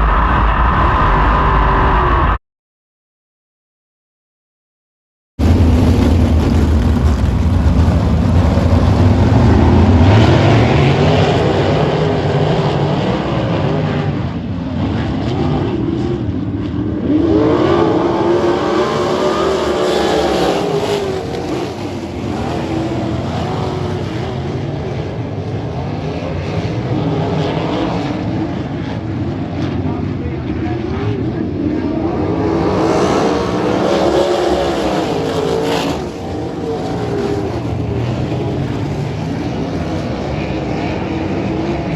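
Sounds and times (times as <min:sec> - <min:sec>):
race car engines at high revs: 0:05.6 - 0:41.9.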